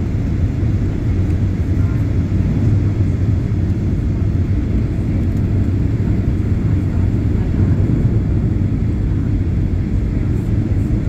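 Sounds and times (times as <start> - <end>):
airplane cabin rumble taxiing: 0.0 - 11.0.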